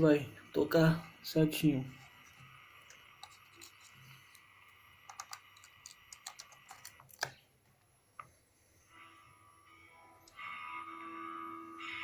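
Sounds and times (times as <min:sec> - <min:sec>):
faint steady high whine: 0:00.0 - 0:12.0.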